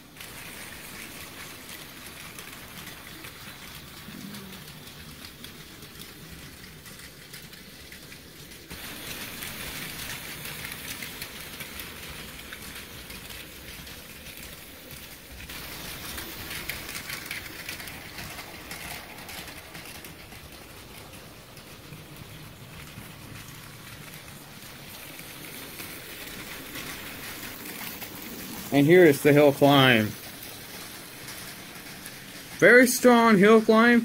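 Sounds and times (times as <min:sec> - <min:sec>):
toy train motor whirring: 0:00.0 - 0:34.0.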